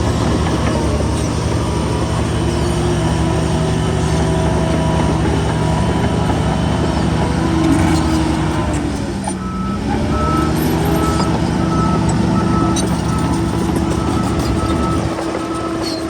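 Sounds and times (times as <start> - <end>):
heavy machinery diesel engine running: 0.0 - 16.0.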